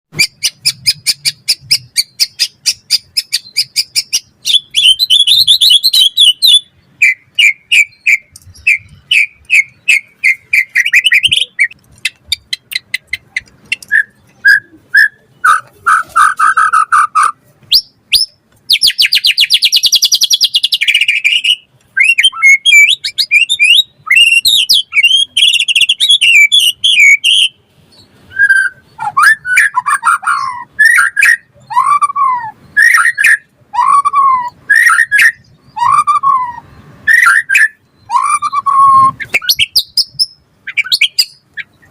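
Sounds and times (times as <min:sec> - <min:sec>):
songbird singing fast varied song: 0:00.1 - 0:41.9.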